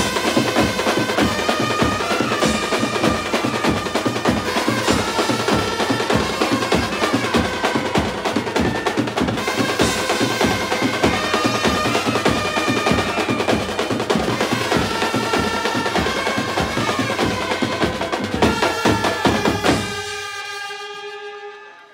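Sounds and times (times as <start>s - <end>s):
fast dense drumming: 0.0s - 20.0s
folk melody: 0.0s - 20.6s.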